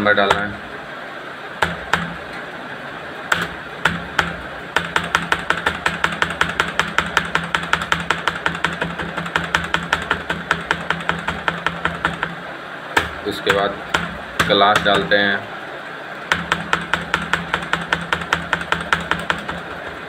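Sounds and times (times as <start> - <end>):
laptop keyboard tapping: 0.0 - 0.6, 1.6 - 2.2, 3.3 - 12.4, 13.0 - 15.1, 16.3 - 20.0
steady low hum: 0.0 - 20.0.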